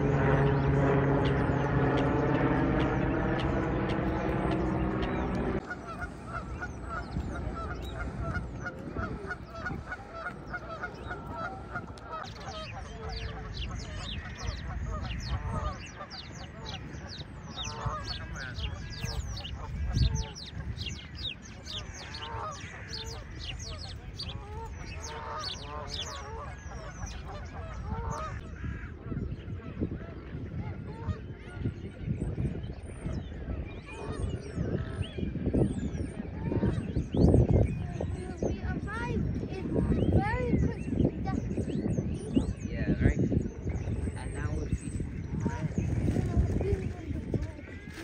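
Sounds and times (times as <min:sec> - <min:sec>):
geese honking: 0:00.0 - 0:41.0
droning hum: 0:00.0 - 0:41.4
small birds chirping: 0:00.0 - 0:48.0.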